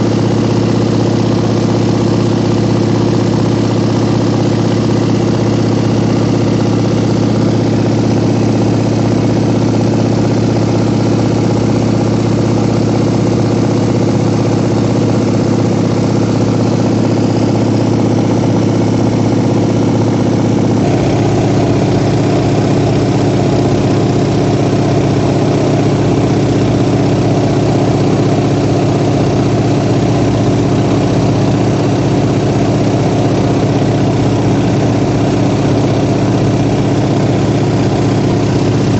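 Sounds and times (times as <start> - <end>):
light aircraft engine droning: 2.4 - 38.9.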